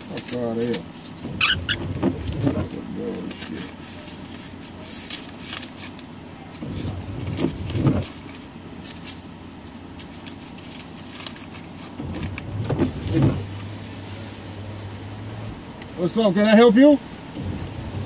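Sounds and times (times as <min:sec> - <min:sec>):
car noise: 0:00.0 - 0:18.0.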